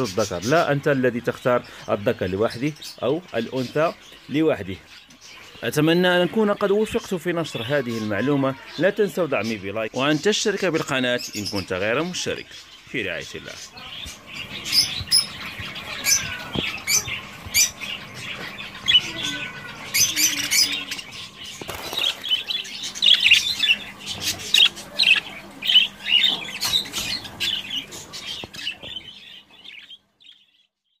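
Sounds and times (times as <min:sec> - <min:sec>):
budgerigars chattering: 0:00.0 - 0:30.5.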